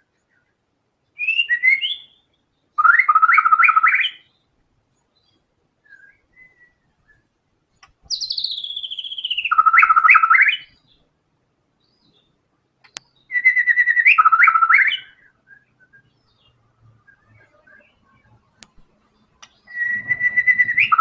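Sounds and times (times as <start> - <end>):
bird singing trills: 1.2 - 7.2, 8.0 - 11.1, 11.8 - 21.0.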